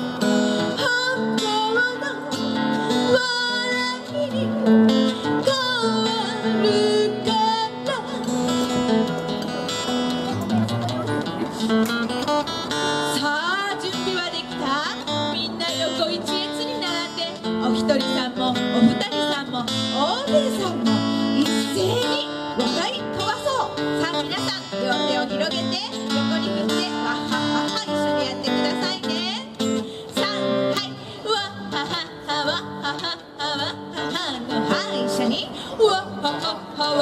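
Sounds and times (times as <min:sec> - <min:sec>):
acoustic guitar: 0:00.0 - 0:37.0
woman singing: 0:00.6 - 0:08.9, 0:13.1 - 0:37.0.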